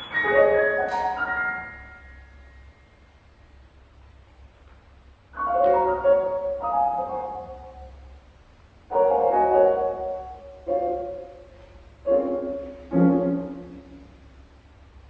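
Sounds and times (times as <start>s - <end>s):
piano chords ringing: 0.0s - 4.0s, 5.0s - 15.0s.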